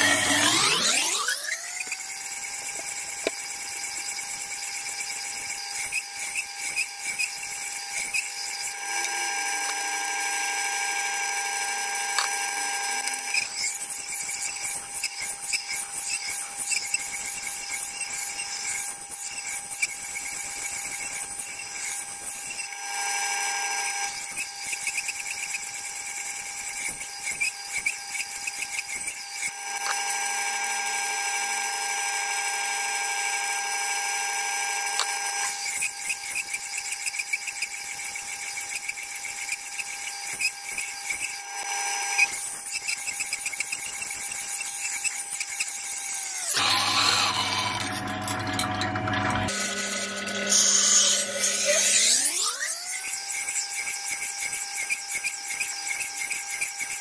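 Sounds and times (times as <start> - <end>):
knife grinding on wheel: 0.0 - 57.0
sharpening wheel whine: 0.0 - 57.0.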